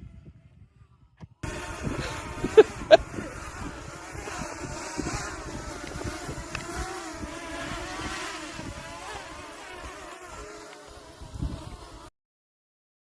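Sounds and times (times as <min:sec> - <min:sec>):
drone propellers whining: 0:00.0 - 0:12.1.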